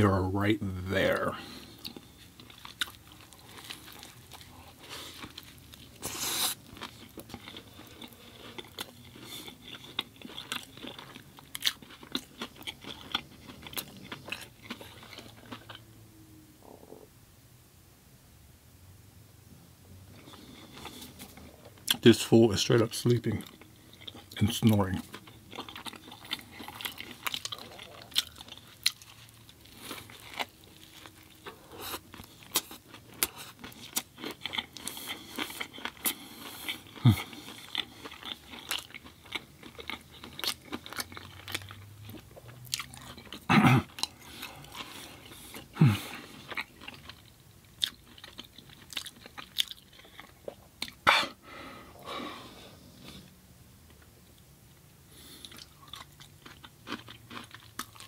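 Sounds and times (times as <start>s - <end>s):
chewing and biting food: 1.4s - 15.9s, 20.2s - 51.0s, 55.4s - 58.0s.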